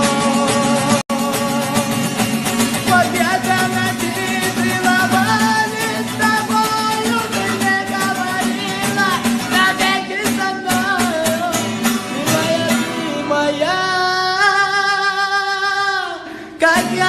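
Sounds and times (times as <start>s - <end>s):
plucked guitar rhythm: 0.0s - 17.0s.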